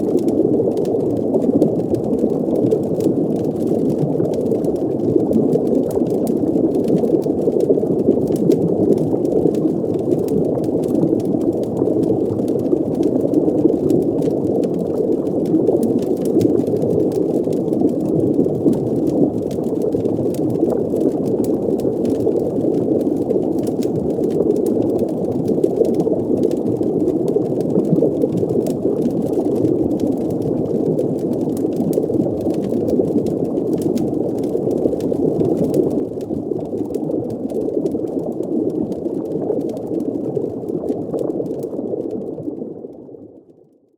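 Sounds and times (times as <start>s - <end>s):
faint crackles: 0.0s - 43.4s
muffled water rumble: 0.0s - 43.9s.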